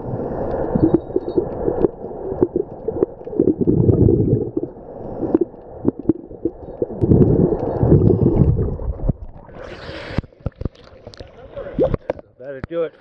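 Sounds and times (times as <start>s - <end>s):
underwater bubbles gurgling: 0.0s - 12.2s.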